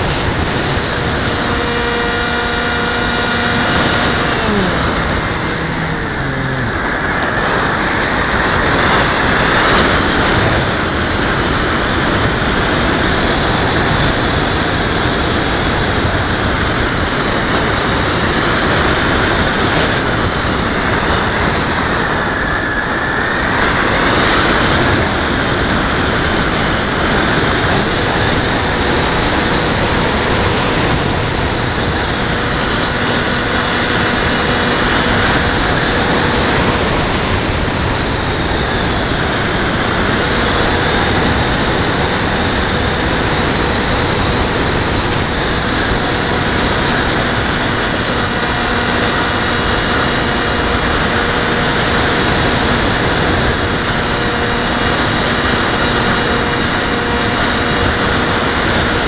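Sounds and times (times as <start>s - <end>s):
model aircraft motor whine: 0.0s - 59.0s
wind rush over microphone: 0.0s - 59.0s.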